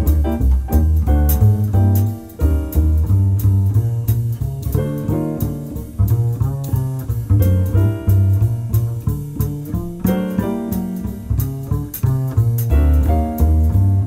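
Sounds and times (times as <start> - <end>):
hi-hat ticks: 0.0 - 14.0
plucked bass line: 0.0 - 14.0.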